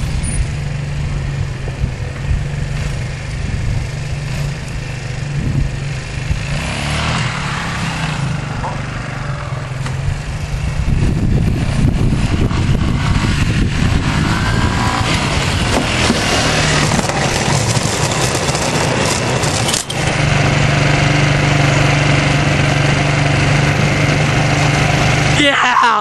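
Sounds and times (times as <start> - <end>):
atv engine running: 0.0 - 25.8
dense rushing noise: 0.0 - 25.8.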